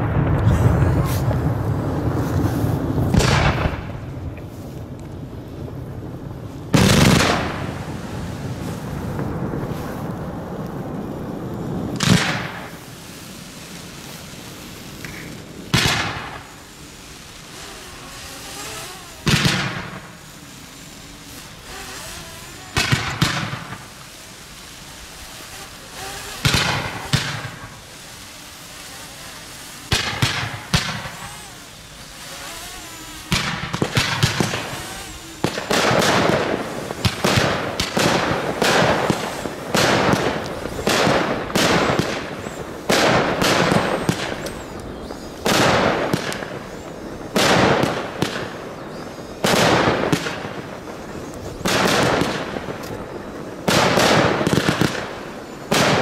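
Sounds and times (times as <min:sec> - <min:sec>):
fireworks bangs: 0:00.0 - 0:56.0
fireworks crackle: 0:00.0 - 0:56.0.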